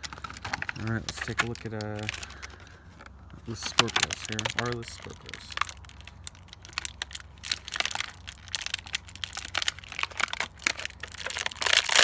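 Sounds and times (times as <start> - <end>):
plastic packaging crinkling and tearing: 0.0 - 12.0.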